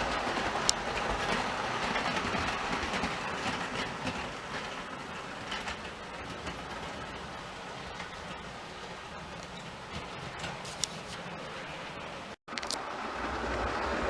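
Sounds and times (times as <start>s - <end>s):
model train wheels clicking on rails: 0.0s - 14.0s.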